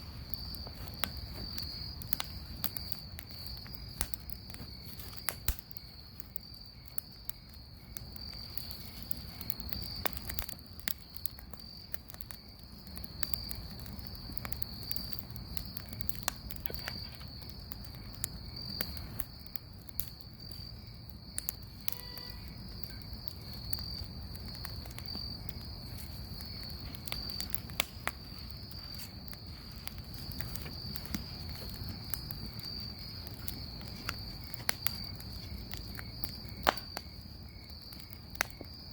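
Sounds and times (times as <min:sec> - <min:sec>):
bonfire crackling: 0:00.0 - 0:38.9
crickets trilling: 0:00.0 - 0:38.9.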